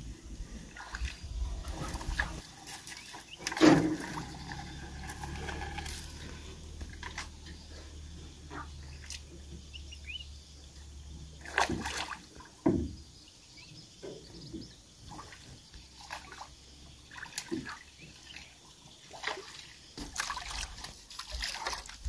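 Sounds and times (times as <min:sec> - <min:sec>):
oars splashing in water: 0:00.6 - 0:09.7, 0:11.3 - 0:13.0, 0:14.2 - 0:22.0.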